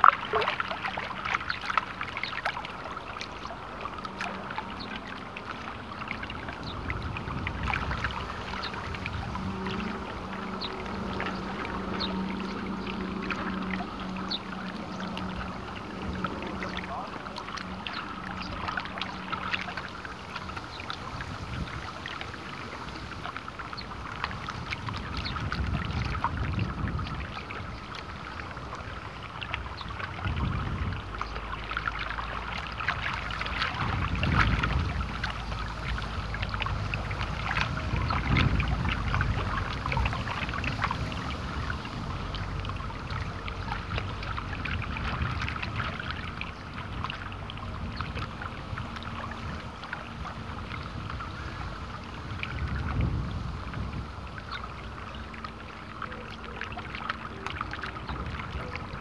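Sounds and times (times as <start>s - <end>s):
low steady hum: 0.0s - 59.0s
small waves lapping and splashing: 0.0s - 59.0s.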